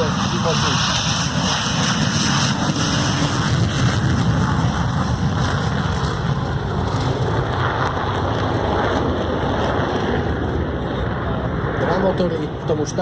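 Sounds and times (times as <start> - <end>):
jet engines on afterburner: 0.0 - 13.0.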